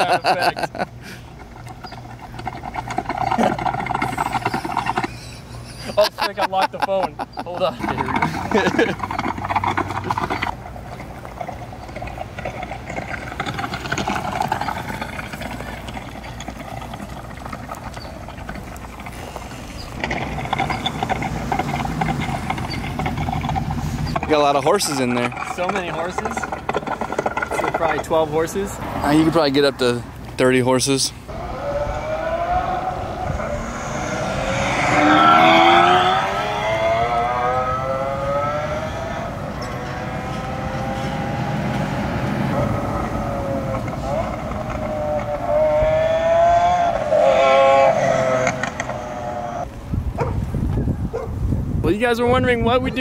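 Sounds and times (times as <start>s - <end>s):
electric motorcycle riding: 0.0s - 6.4s, 7.2s - 30.5s, 31.2s - 51.8s
engine sound through speaker: 7.3s - 49.7s.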